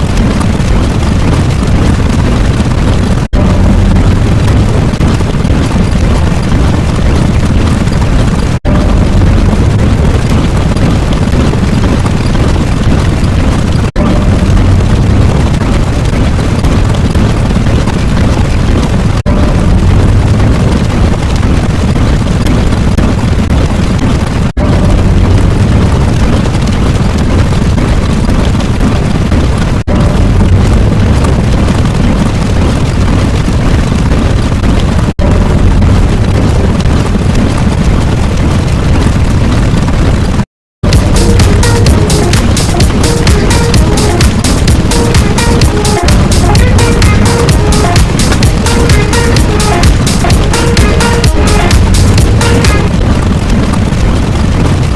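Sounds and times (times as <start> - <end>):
loud distorted rumbling: 0.0 - 54.9.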